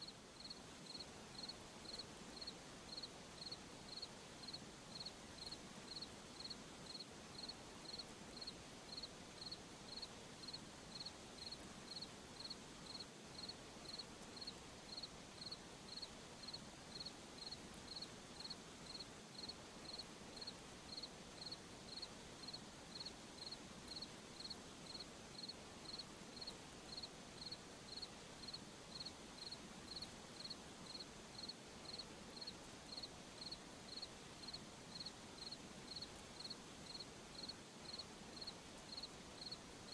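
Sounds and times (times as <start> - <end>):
faint hiss: 0.0 - 39.9
cricket chirping: 0.4 - 39.9.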